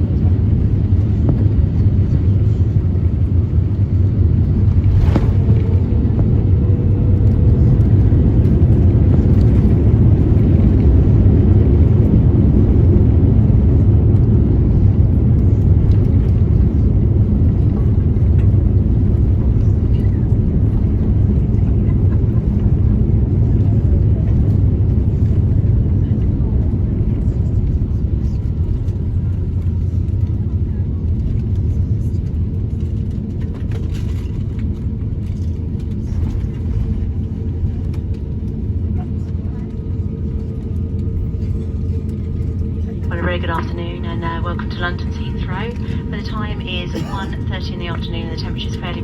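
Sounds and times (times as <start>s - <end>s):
aircraft cabin rumble: 0.0s - 49.0s.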